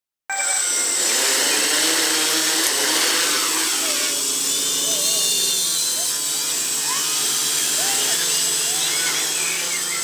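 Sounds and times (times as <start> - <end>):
quadcopter motors whirring: 0.4 - 10.0.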